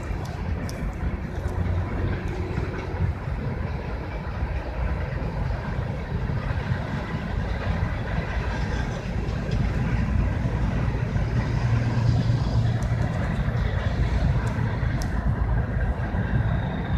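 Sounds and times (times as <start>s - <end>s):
diesel locomotive rumbling: 0.0s - 16.9s.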